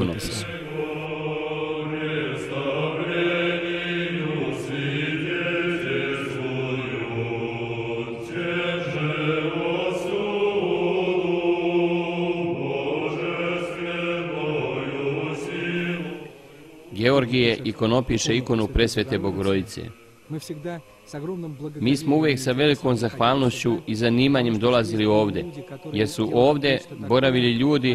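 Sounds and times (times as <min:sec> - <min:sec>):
men chanting slowly: 0:00.0 - 0:27.9.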